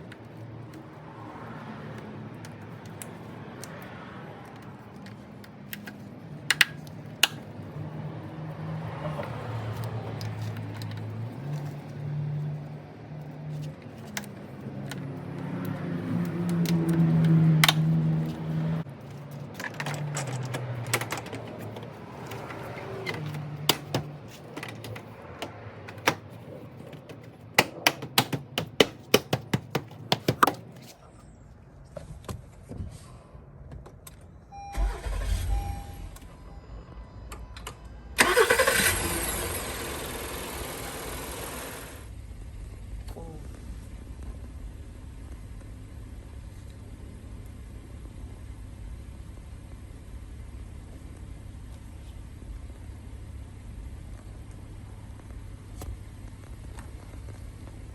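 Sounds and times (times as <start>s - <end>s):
car engine starting and idling: 4.9s - 30.6s, 34.0s - 57.9s.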